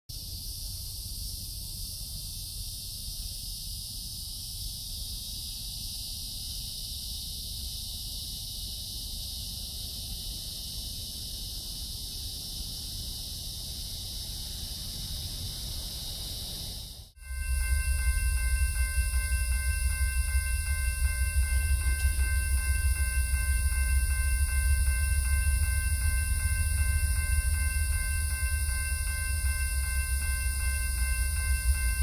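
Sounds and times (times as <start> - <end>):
insects chirring: 0.1 - 32.0.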